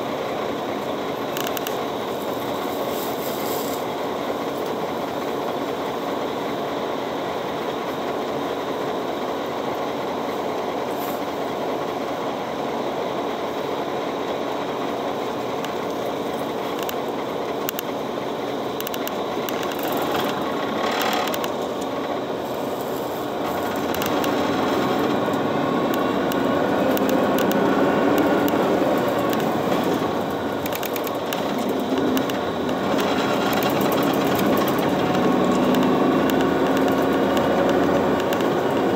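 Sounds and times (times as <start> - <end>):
bus engine and road noise: 0.0 - 38.9.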